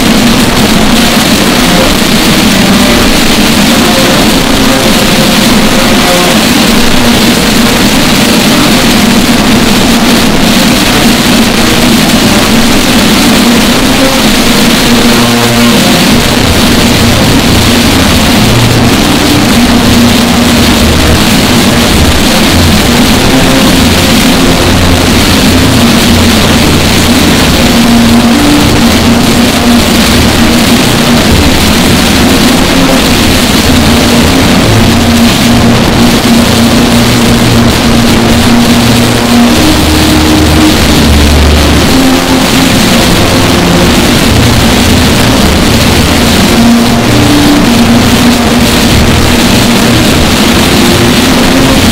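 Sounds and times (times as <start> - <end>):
distorted bagpipe music: 0.0 - 51.9.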